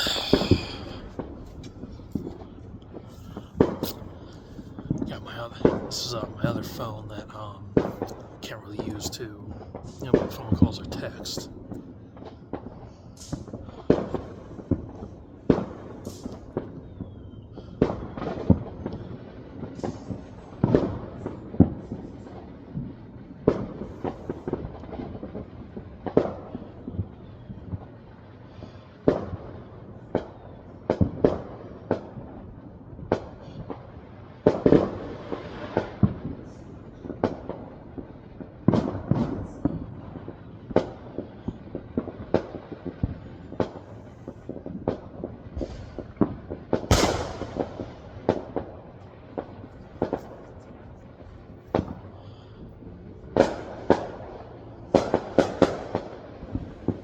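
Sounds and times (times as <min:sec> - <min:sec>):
fireworks and firecrackers banging: 0:00.0 - 0:57.0.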